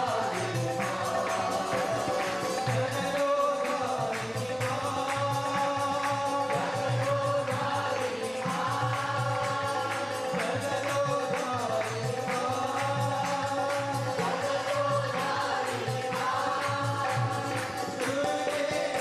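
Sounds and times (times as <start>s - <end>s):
congregation singing: 0.0s - 19.0s
hand clapping: 0.0s - 19.0s
percussion beat: 0.0s - 19.0s.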